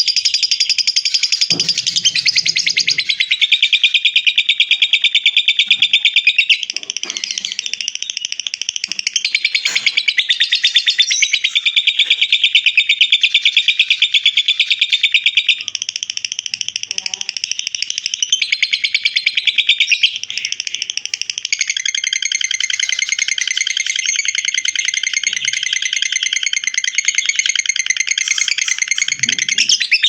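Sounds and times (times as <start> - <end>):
bird chattering trill: 0.0 - 30.0.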